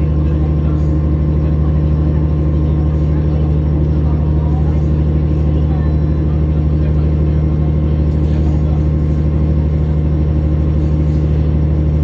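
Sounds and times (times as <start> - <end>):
diesel train engine humming: 0.0 - 12.0.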